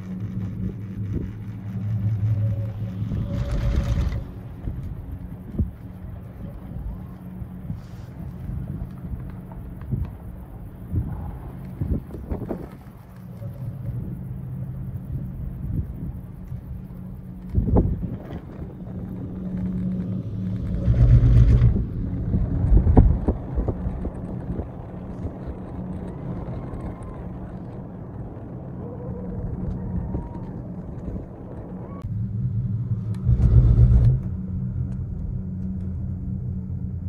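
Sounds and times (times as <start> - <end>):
cable car cabin humming: 0.0 - 37.0.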